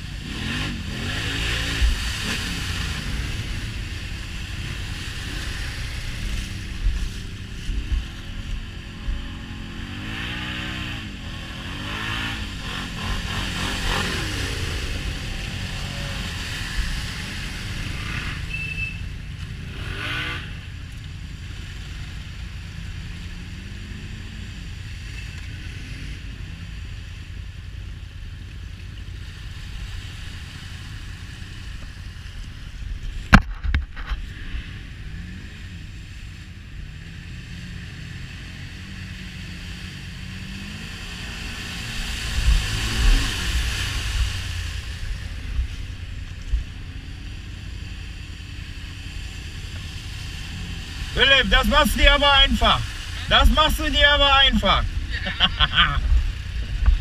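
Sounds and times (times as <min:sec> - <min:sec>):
off-road vehicle engine revving: 0:00.0 - 0:27.3, 0:33.1 - 0:57.0.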